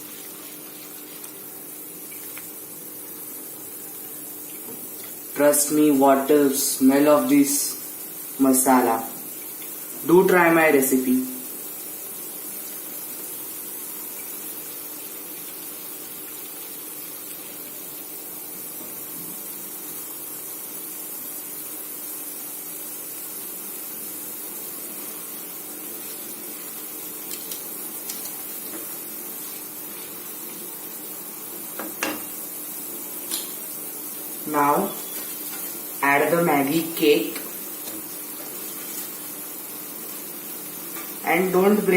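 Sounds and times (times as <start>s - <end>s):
pan of water hissing on stove: 0.0s - 41.9s.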